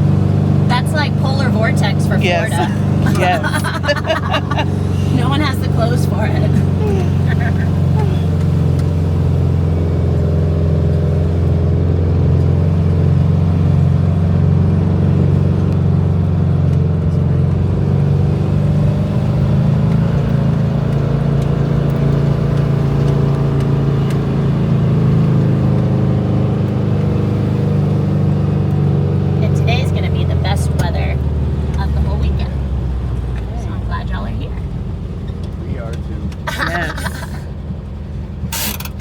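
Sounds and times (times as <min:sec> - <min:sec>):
vehicle engine and road noise: 0:00.0 - 0:39.0.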